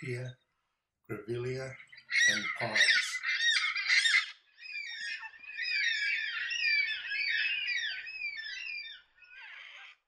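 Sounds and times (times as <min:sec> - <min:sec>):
flock of birds calling: 0:01.4 - 0:10.0.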